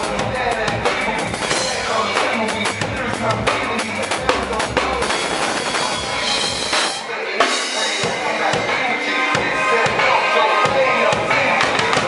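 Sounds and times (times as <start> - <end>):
acoustic drum kit playing: 0.0 - 12.0
electronic dance music: 0.0 - 12.0.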